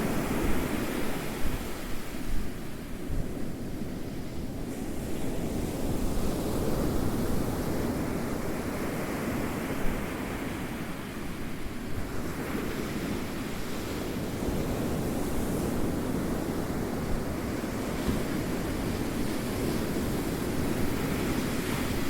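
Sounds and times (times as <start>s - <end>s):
ocean waves rolling onto shore: 0.0s - 22.0s.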